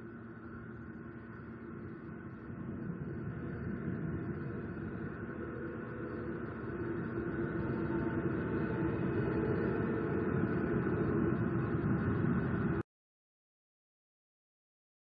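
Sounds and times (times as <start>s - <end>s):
low rumbling background noise: 0.0s - 12.8s.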